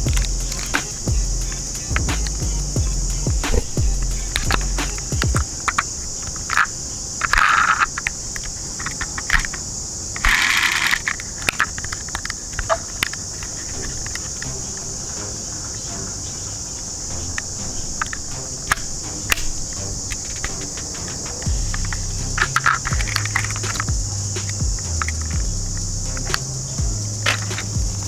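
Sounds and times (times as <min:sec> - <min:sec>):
toy car clicks and scrapes: 0:00.0 - 0:02.6, 0:03.5 - 0:14.5, 0:18.0 - 0:26.5, 0:27.2 - 0:27.8
insects chirring: 0:00.0 - 0:28.0.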